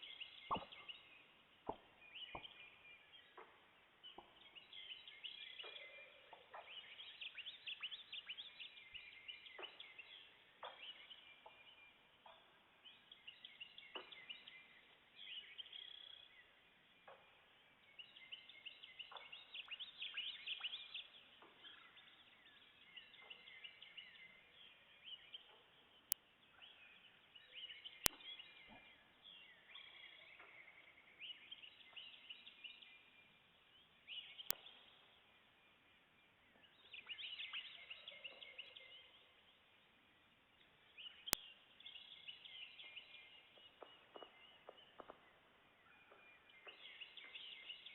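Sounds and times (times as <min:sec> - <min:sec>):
birds singing and chirping: 0:00.0 - 0:39.8, 0:40.6 - 0:47.9.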